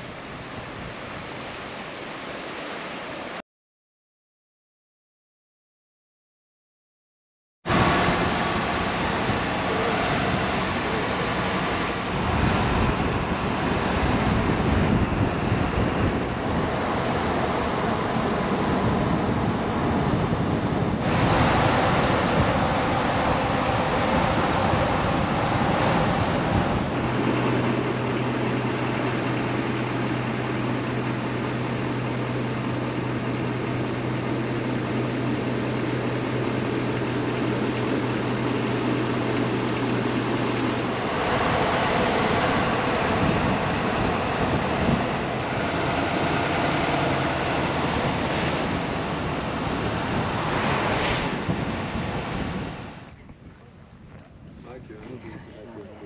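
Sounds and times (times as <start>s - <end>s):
car wind and road noise: 0.0s - 3.4s, 7.7s - 56.0s.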